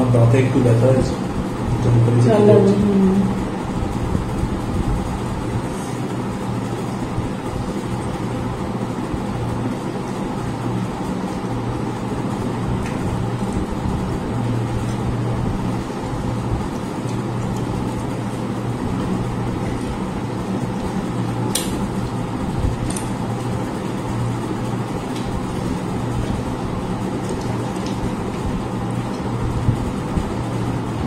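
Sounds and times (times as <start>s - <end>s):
constant noise: 0.0s - 31.0s
steady low hum: 0.0s - 31.0s.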